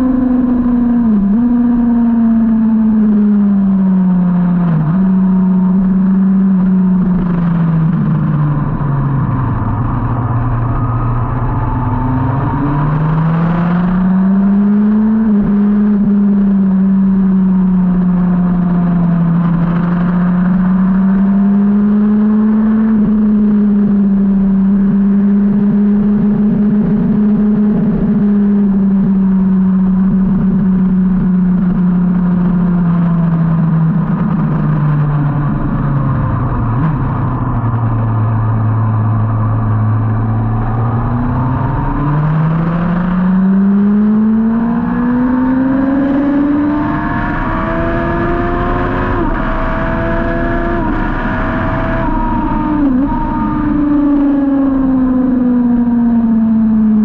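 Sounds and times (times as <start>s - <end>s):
motorcycle engine running hard: 0.0s - 57.0s
wind noise: 0.0s - 57.0s.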